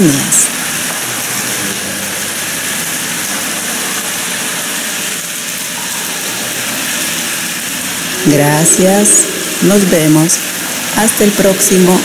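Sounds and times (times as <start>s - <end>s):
water pouring into cistern: 0.0s - 12.0s.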